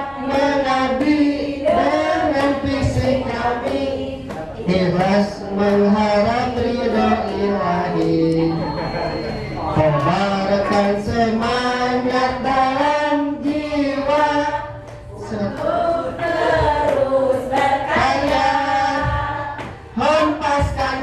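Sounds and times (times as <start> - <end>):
group singing march song in unison: 0.0 - 8.4, 9.8 - 21.0.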